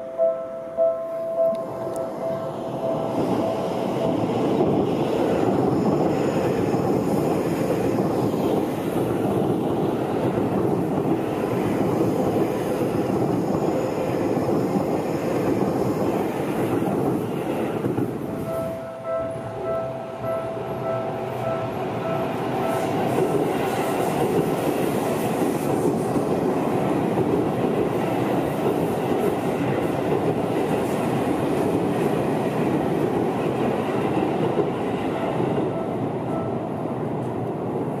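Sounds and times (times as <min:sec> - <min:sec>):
train passing: 0:00.0 - 0:38.0.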